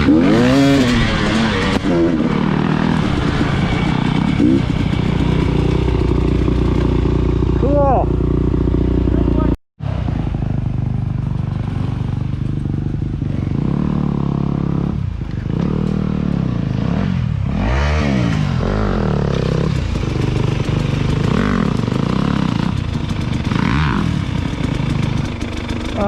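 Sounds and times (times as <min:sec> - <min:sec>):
dirt bike engine revving: 0:00.0 - 0:10.3, 0:11.6 - 0:26.0.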